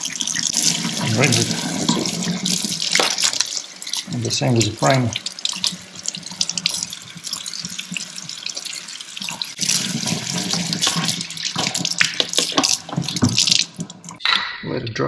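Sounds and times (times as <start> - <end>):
tap water running into sink: 0.0 - 14.2
water splashing off plastic: 0.5 - 4.2, 4.9 - 14.2.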